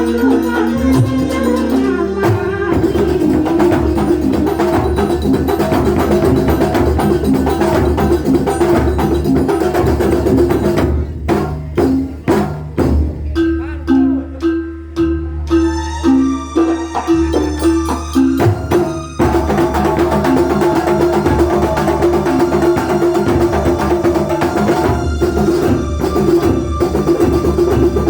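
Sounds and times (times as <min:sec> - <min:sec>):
percussion ensemble playing: 0:00.0 - 0:28.0.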